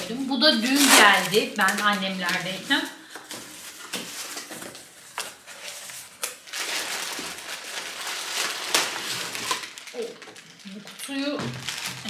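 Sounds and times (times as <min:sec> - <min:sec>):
cardboard packaging crinkling: 0:00.0 - 0:12.0.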